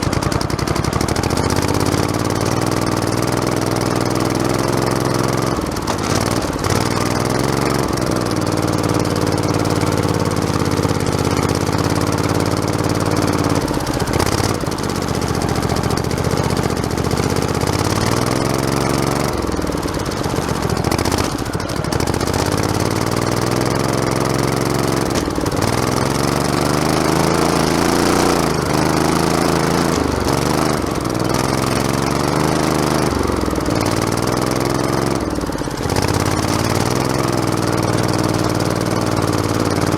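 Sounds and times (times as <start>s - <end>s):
lawn tractor engine running: 0.0s - 39.9s
machine rattling and clatter: 0.0s - 39.9s.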